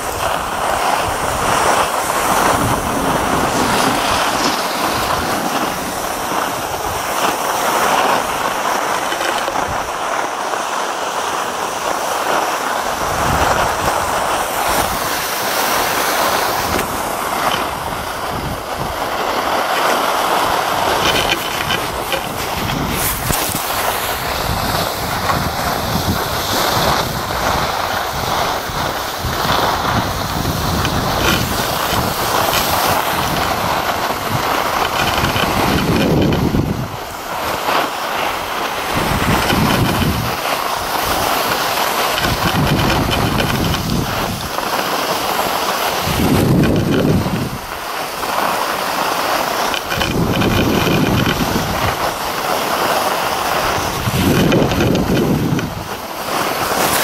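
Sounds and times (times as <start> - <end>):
wind buffeting microphone: 0.0 - 10.4, 11.5 - 57.0
skis scraping on snow: 0.0 - 57.0.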